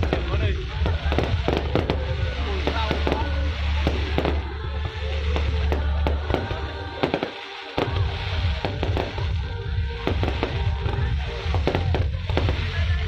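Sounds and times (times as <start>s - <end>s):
fireworks bangs and crackles: 0.0s - 13.0s
music with heavy bass: 0.0s - 13.0s.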